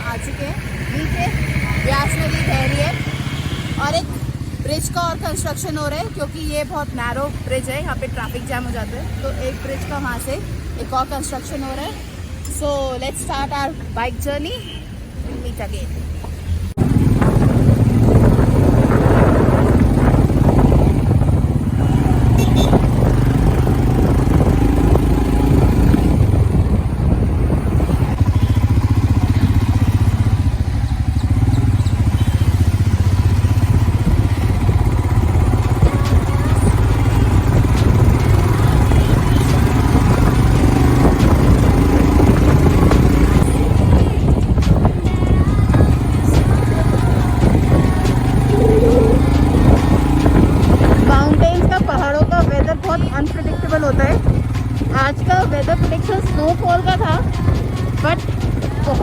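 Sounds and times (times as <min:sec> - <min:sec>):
motorcycle engine drone: 0:00.0 - 0:11.2, 0:16.0 - 0:59.0.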